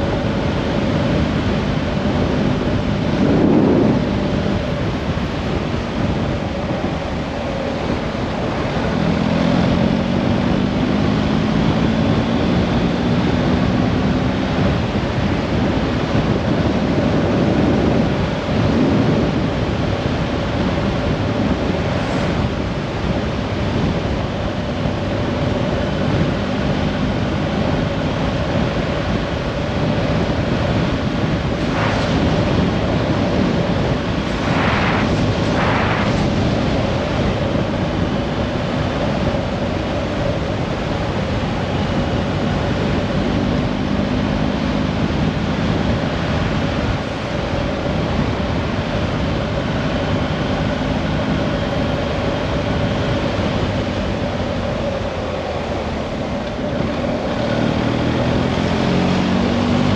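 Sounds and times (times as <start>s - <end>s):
even rushing noise: 0.9s - 12.4s, 14.6s - 28.1s, 29.0s - 59.9s.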